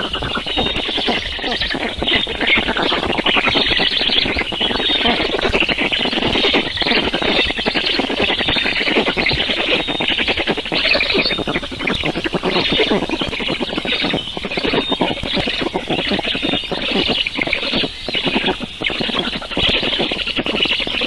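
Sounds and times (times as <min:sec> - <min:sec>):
birds chattering: 0:00.0 - 0:21.0.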